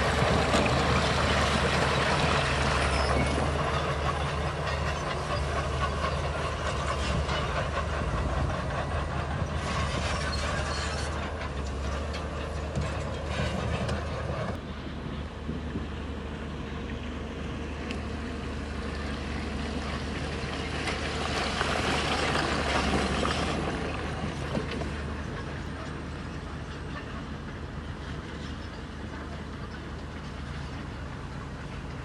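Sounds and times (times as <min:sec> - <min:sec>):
steel tracks clanking: 0:00.0 - 0:15.9, 0:19.0 - 0:32.0
bulldozer diesel engine under load: 0:00.0 - 0:32.0.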